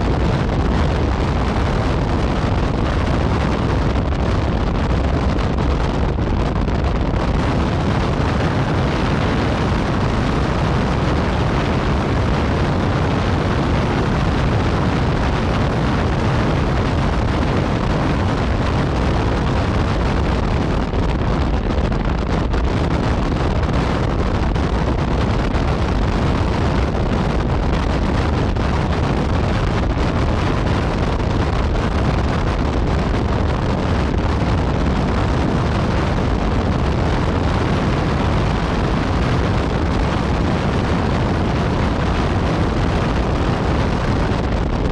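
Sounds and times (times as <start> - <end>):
wind rush on microphone: 0.0 - 44.9.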